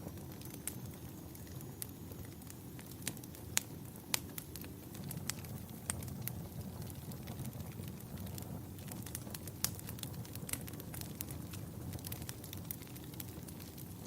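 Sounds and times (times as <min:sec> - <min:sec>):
burning wood crackling and popping: 0:00.0 - 0:14.0
campfire flames rumbling: 0:00.0 - 0:14.0.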